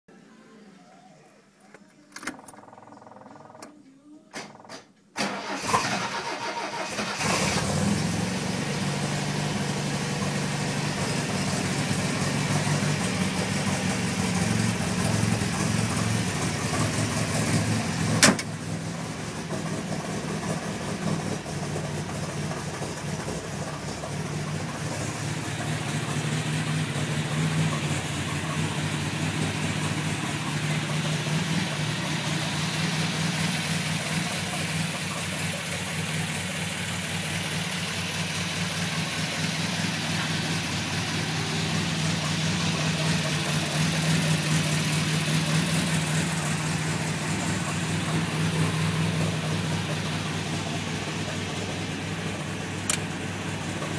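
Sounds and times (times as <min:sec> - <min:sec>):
car engine idling: 0:04.5 - 0:53.9.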